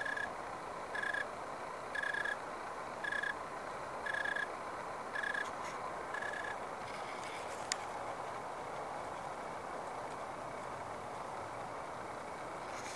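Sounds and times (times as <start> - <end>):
tree cricket chirping: 0.0 - 12.9.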